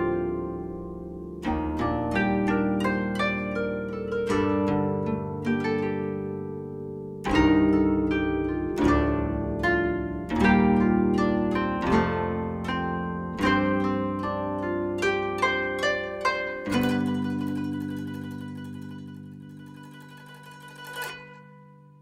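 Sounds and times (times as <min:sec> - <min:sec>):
plucked harp-like music: 0:00.0 - 0:22.0.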